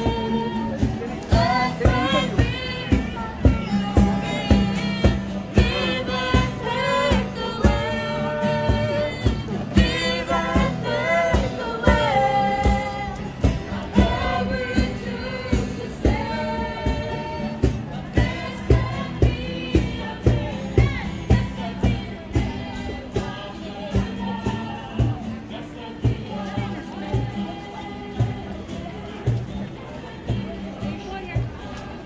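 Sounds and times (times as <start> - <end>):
group singing in harmony: 0.0 - 32.0.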